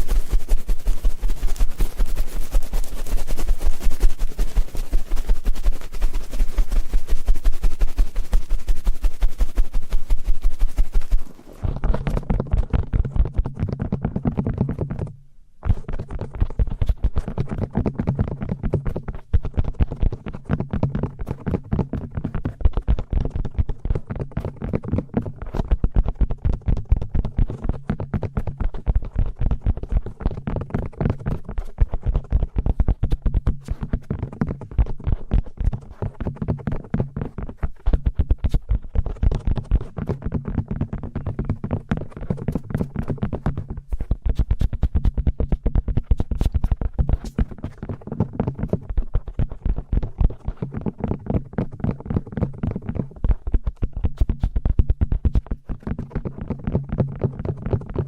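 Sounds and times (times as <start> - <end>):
tapping and rubbing on microphone: 0.0 - 58.0.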